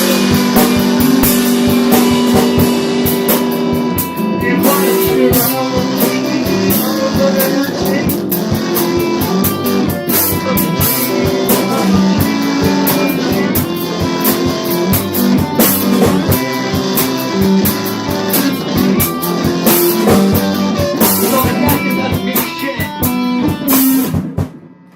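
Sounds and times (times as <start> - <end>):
drum kit playing: 0.0 - 24.9
rock guitar: 0.0 - 24.9.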